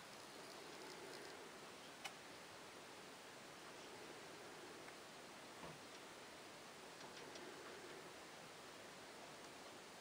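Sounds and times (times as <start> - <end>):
faint room tone hiss: 0.0 - 10.0.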